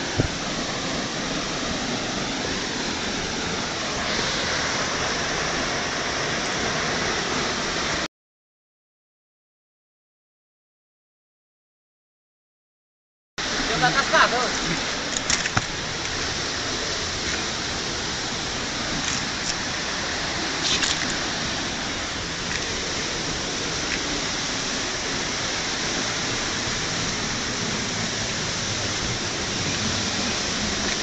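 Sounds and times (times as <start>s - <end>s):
stream water rushing: 0.0s - 8.1s, 13.4s - 31.0s.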